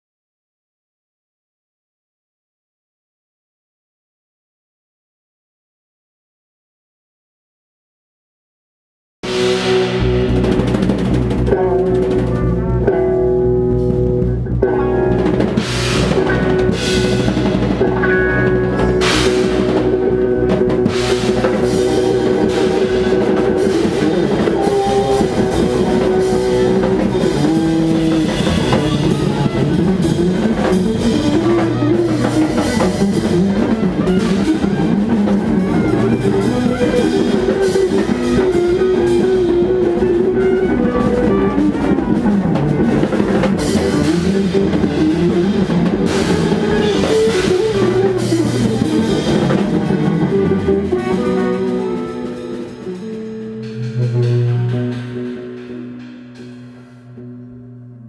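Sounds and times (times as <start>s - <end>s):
drum kit: 9.2s - 58.0s
jazz band playing: 9.2s - 58.0s.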